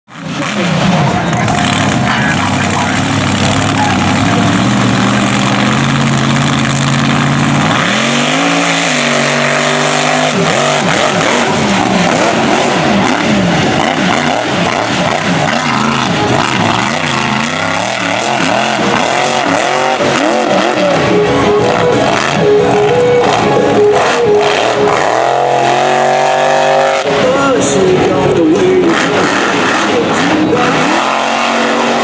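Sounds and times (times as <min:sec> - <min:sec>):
truck engine revving: 0:00.1 - 0:32.0.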